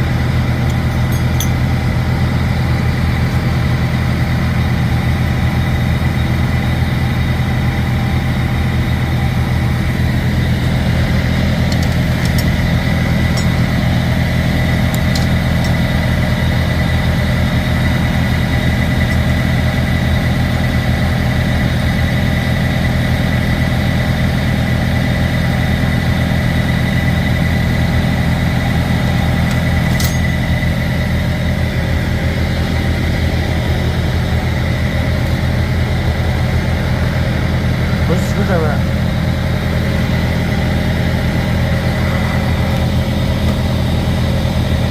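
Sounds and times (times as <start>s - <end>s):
diesel truck engine idling: 0.0s - 44.9s
thin steady whine: 0.0s - 44.9s.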